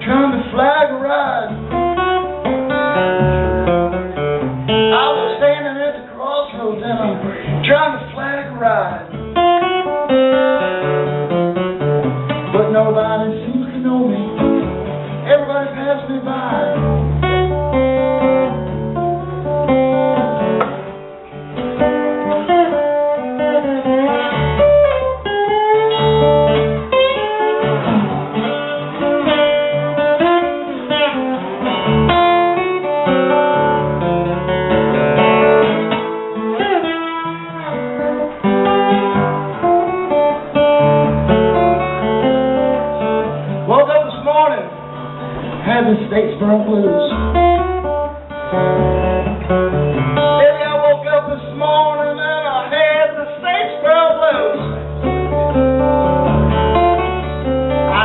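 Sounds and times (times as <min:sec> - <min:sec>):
acoustic guitar picked melody: 0:00.0 - 0:58.0.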